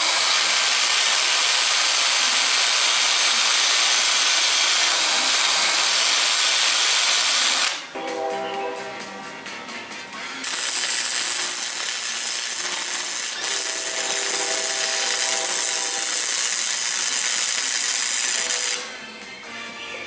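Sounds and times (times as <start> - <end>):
welder arc crackling: 0.0 - 7.9, 10.4 - 18.9.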